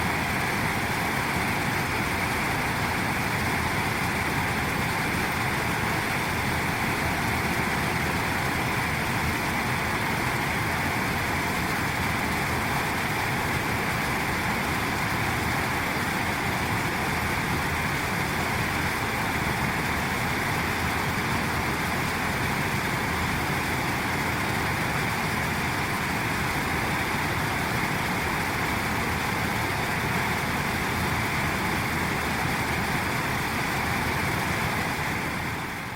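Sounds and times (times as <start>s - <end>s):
steady rushing noise: 0.0s - 35.9s.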